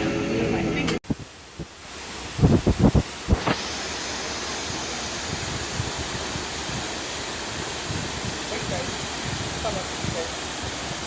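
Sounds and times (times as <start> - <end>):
waterfall rushing: 1.1 - 11.0.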